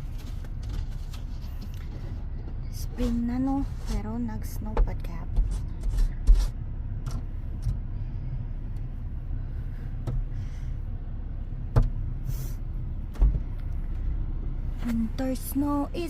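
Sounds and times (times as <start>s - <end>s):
car interior low rumble: 0.0s - 16.0s.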